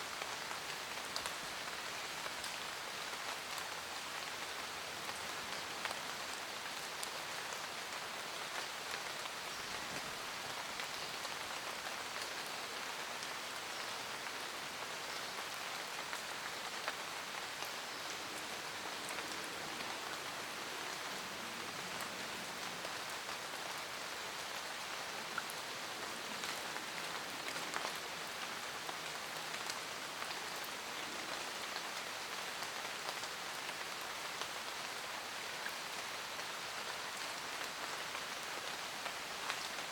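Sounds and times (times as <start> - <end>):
light rain on leaves: 0.0 - 39.9.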